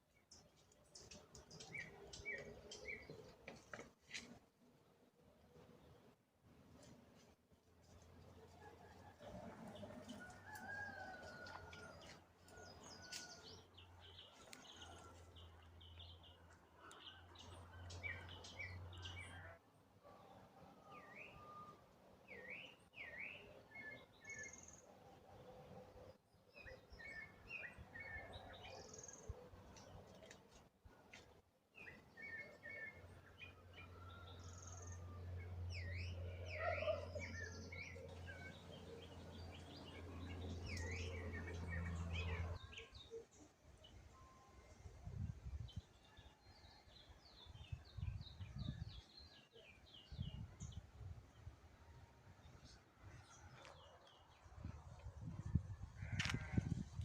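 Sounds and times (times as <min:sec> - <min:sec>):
wild birds chirping: 0:00.1 - 0:04.4, 0:08.9 - 0:31.0, 0:31.8 - 0:57.0.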